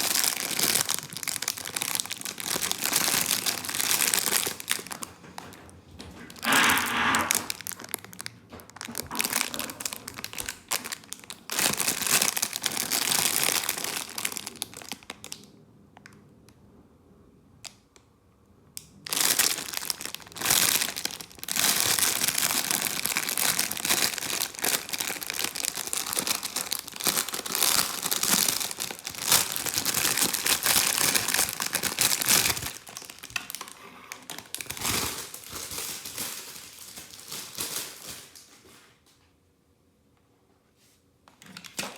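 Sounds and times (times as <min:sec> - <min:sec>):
packaging crinkling: 0:00.0 - 0:16.2, 0:18.9 - 0:39.0.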